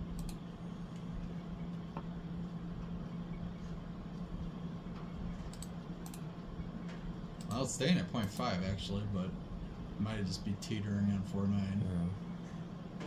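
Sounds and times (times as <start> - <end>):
ceiling fan motor humming: 0.0 - 13.0.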